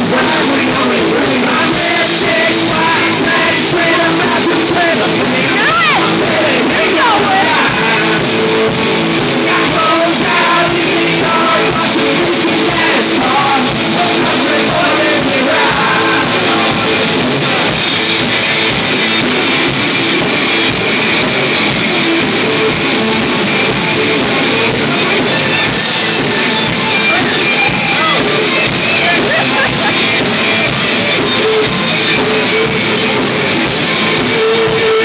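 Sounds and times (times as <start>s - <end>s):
drums: 0.0s - 35.0s
electric guitar: 0.0s - 35.0s
lead vocal singing: 0.0s - 35.0s.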